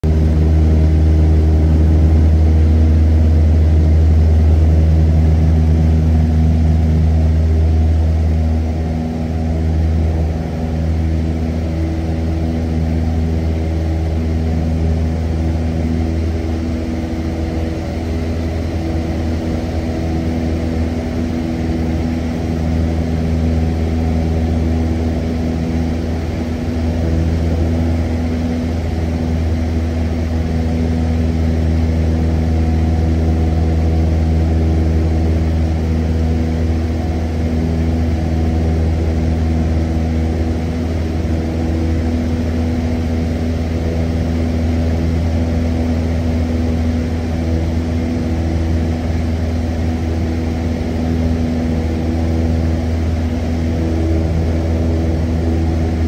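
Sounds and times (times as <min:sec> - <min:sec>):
airplane engine drone in cabin: 0:00.0 - 0:56.0.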